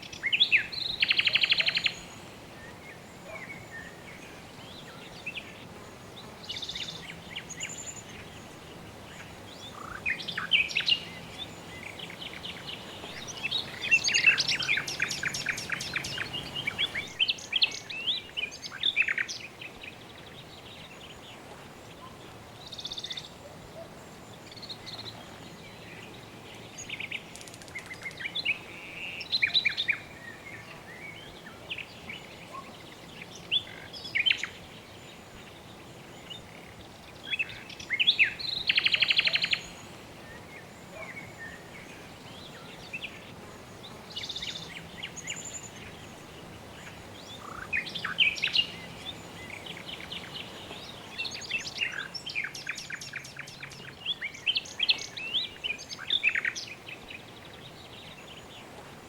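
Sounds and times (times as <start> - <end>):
background hiss: 0.0 - 59.0
birds chirping: 2.8 - 58.8.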